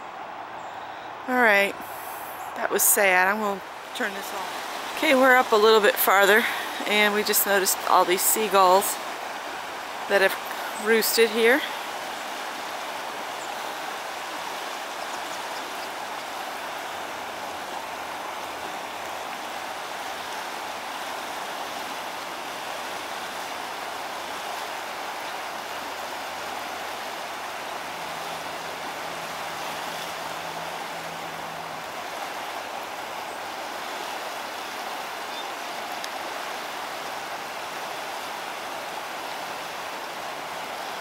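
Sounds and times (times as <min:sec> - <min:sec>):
river rushing: 0:00.0 - 0:41.0.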